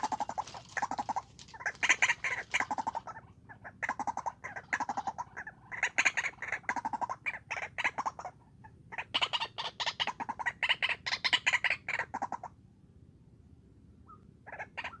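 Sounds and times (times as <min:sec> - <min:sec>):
bird harsh repeated calls: 0:00.0 - 0:12.6, 0:14.0 - 0:15.0.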